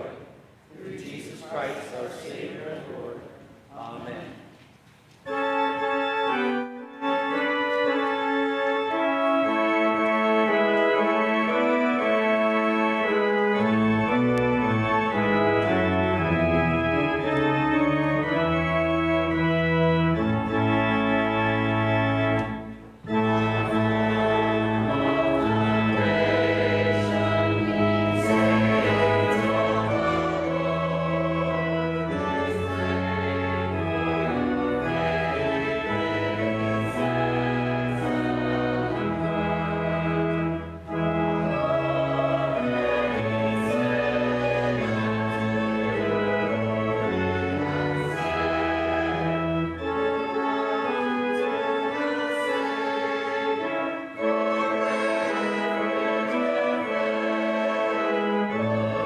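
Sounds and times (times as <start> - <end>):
church organ playing chords: 5.2 - 59.0.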